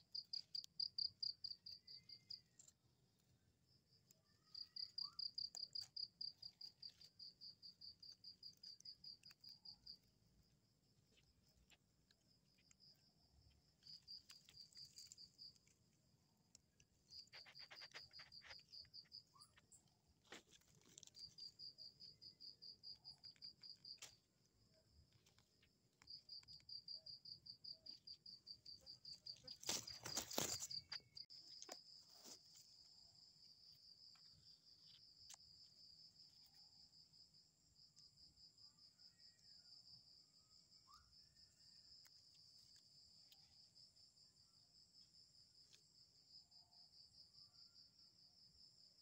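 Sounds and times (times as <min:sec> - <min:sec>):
cricket trilling: 0:00.0 - 0:49.0.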